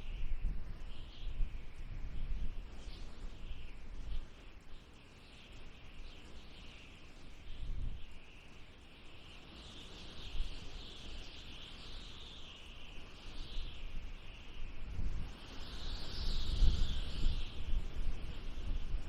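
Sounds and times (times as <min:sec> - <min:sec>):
wind blowing in gusts: 0:00.0 - 0:19.0.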